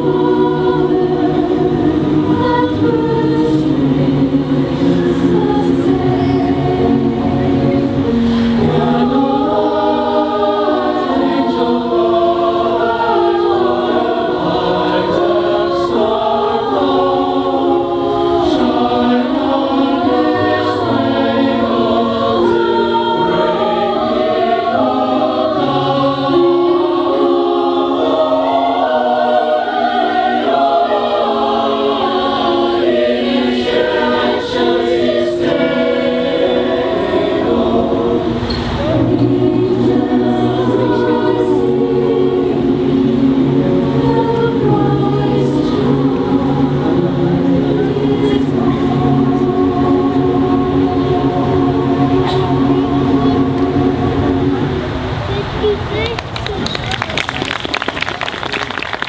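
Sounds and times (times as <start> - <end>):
choir singing: 0.0 - 55.7.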